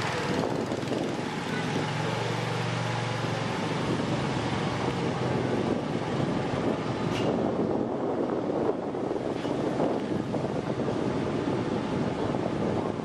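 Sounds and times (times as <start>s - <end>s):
engine running: 0.0s - 13.0s
wind noise on microphone: 0.0s - 13.0s.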